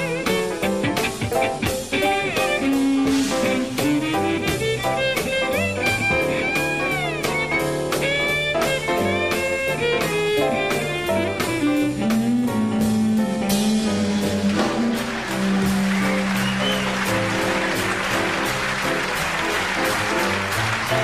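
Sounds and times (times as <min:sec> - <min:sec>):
drum kit: 0:00.0 - 0:21.0
jazz violin solo: 0:00.0 - 0:21.0
piano: 0:00.0 - 0:21.0
upright bass: 0:00.0 - 0:21.0.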